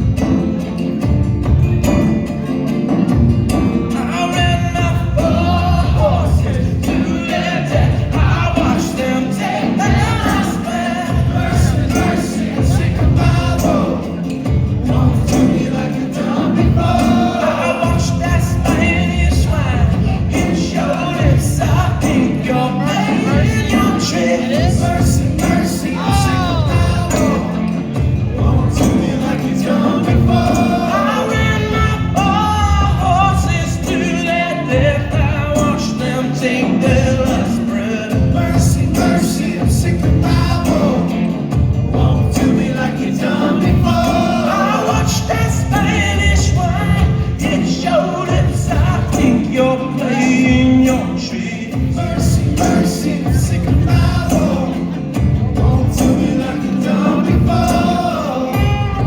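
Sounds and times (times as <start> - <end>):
lead vocal singing: 0.0 - 59.0
rock band playing live: 0.0 - 59.0.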